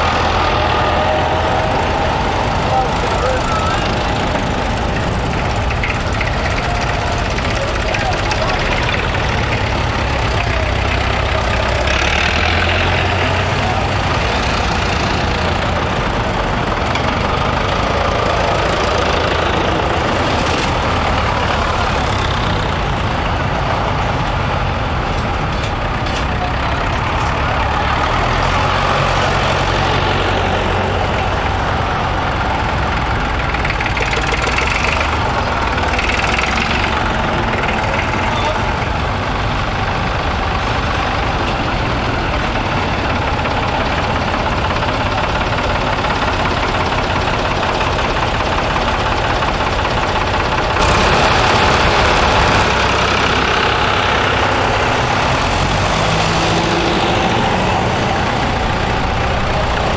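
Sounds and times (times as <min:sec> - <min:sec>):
tractor engines idling: 0:00.0 - 0:59.9.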